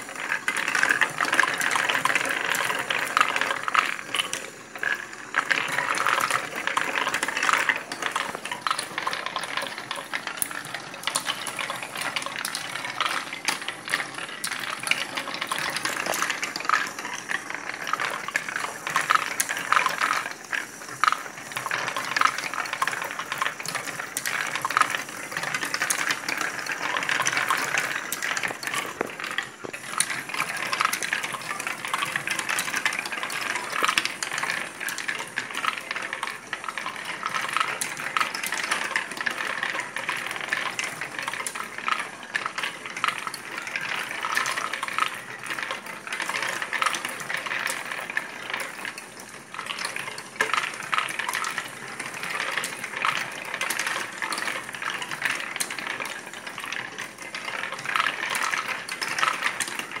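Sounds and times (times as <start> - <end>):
balls clicking against wood: 0.0 - 60.0
steel balls rolling on wooden tracks: 0.0 - 60.0.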